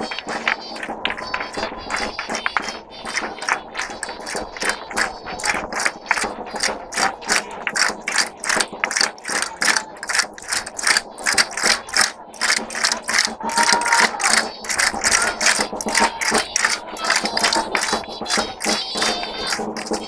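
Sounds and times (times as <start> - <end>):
faint music: 0.0 - 20.0
castanets clicking: 2.3 - 20.0.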